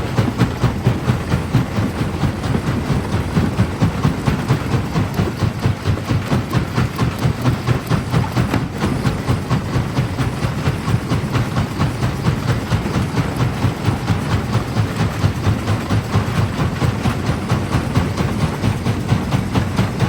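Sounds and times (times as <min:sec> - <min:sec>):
jaw crusher pulsing: 0:00.0 - 0:20.0.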